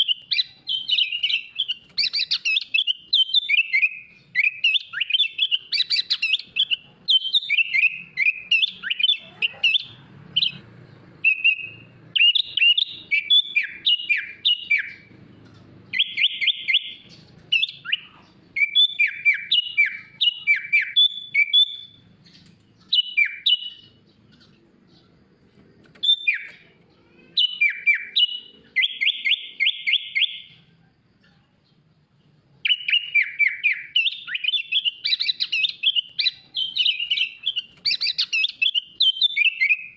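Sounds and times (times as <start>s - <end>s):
bird singing chirps and whistles: 0.0s - 30.7s, 32.6s - 39.9s
bird trills: 0.0s - 31.9s, 32.6s - 39.9s.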